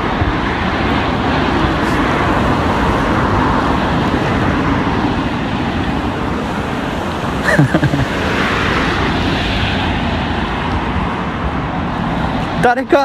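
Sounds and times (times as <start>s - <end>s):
road traffic rushing: 0.0s - 13.0s
wind rumble on microphone: 0.0s - 13.0s.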